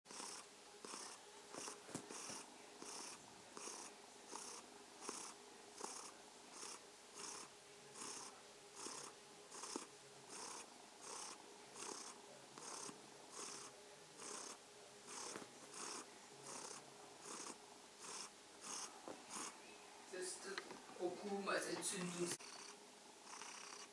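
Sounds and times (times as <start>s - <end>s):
cat purring: 0.1s - 23.9s.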